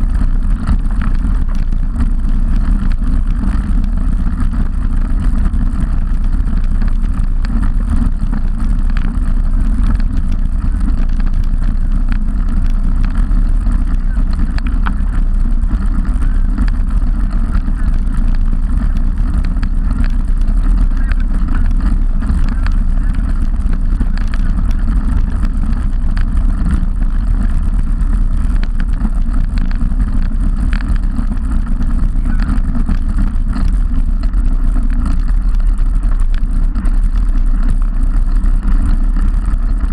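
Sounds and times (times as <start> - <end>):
tyres rolling on asphalt: 0.0 - 39.9
wind rumble on microphone: 0.0 - 39.9.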